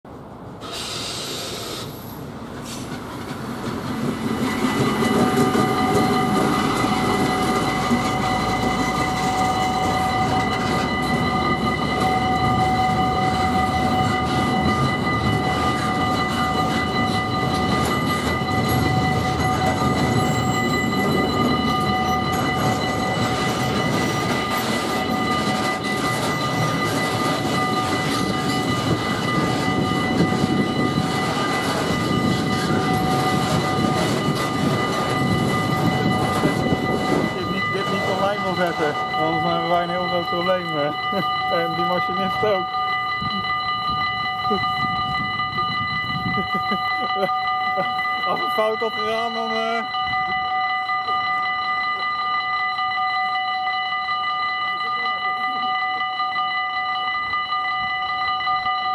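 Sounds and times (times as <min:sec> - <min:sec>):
freight train passing: 0:00.1 - 0:58.9
high-pitched ringing tones: 0:04.1 - 0:58.9.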